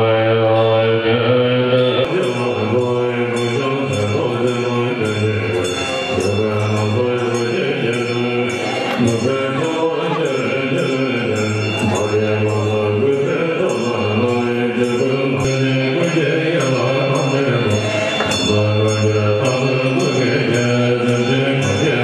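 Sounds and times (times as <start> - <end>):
group chanting prayers in unison: 0.0 - 22.0.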